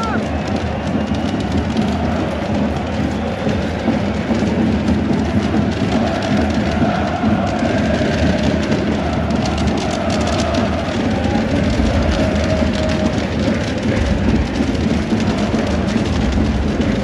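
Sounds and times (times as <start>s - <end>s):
stadium crowd noise: 0.0s - 17.0s.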